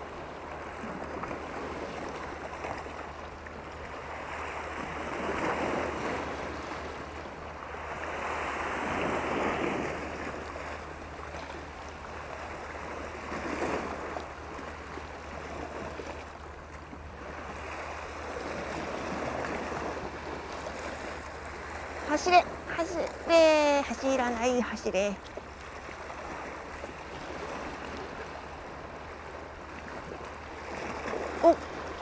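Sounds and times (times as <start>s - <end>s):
sea waves washing against rocks: 3.7s - 32.0s.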